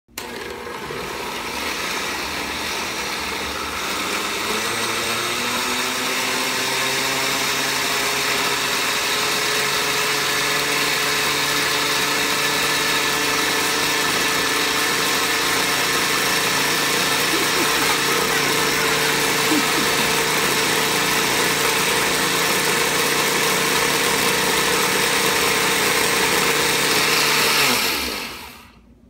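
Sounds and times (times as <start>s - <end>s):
blender motor running: 0.1s - 28.8s.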